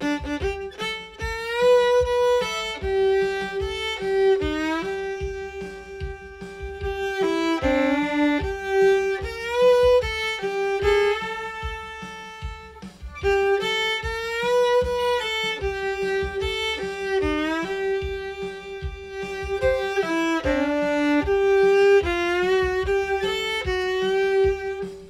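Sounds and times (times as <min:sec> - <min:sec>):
solo fiddle melody: 0:00.0 - 0:25.0.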